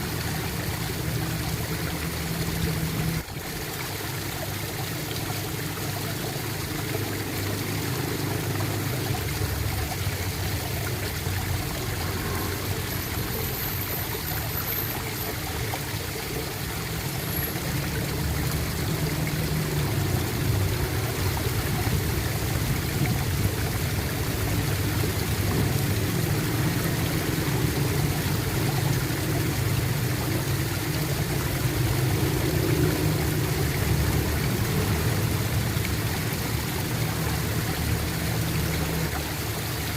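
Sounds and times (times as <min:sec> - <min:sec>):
water gurgling and trickling: 0:00.0 - 0:39.9.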